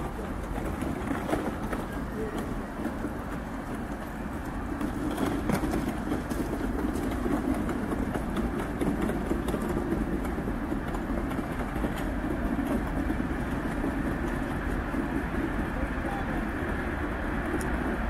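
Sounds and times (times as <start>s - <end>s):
distant vehicle engines rumbling: 0.0s - 18.0s.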